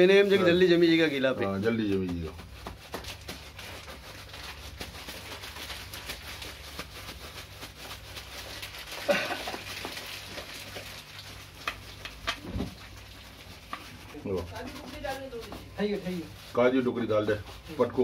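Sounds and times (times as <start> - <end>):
plastic bag rustling: 0.0 - 18.0.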